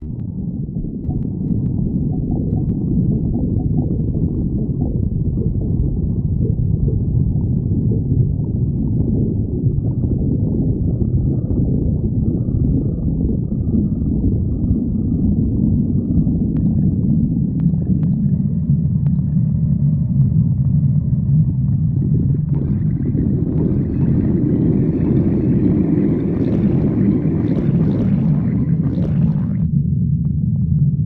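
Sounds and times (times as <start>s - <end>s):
stomach growling: 0.0s - 30.4s.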